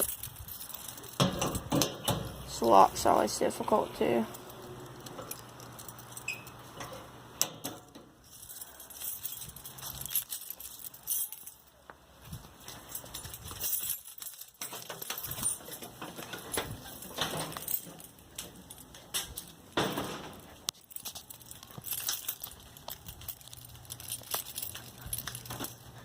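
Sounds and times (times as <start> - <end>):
keys jangling: 0.0 - 26.0.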